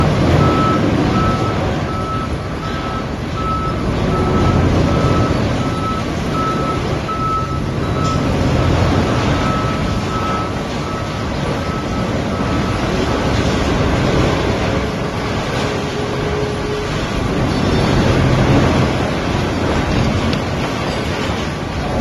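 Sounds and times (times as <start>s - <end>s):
reversing alarm beeping: 0.0s - 19.9s
heavy machinery rumbling: 0.0s - 22.0s.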